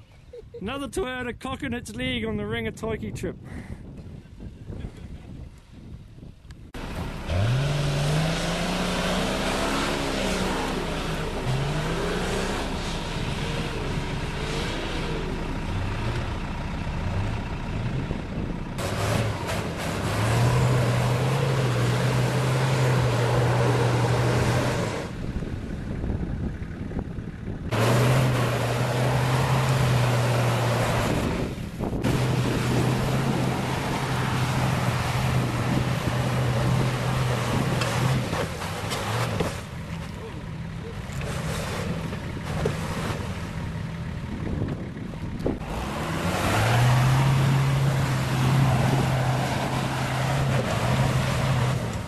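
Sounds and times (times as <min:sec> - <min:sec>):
vehicle engine working hard: 0:06.6 - 0:52.0.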